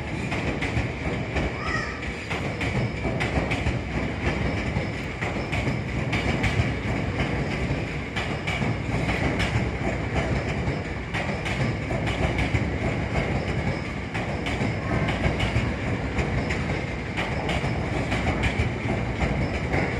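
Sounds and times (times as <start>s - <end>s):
electric train rumbling past: 0.0s - 19.9s
wheels clacking over rail joints: 0.0s - 19.9s.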